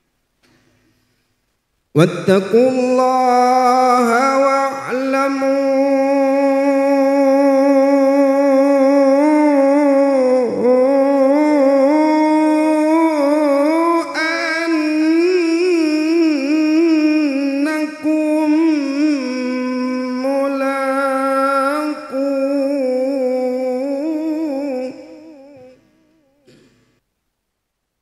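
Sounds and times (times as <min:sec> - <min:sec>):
man reciting melodically: 0:02.0 - 0:26.6.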